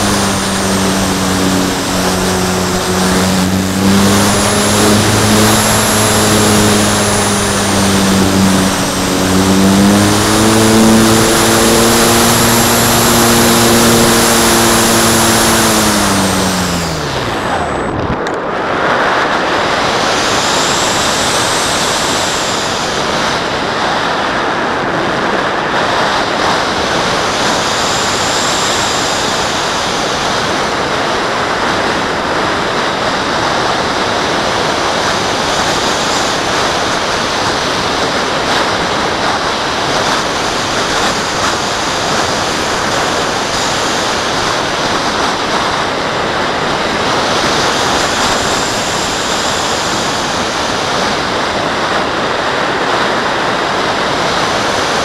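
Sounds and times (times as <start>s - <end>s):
rushing wind noise: 0.0s - 55.0s.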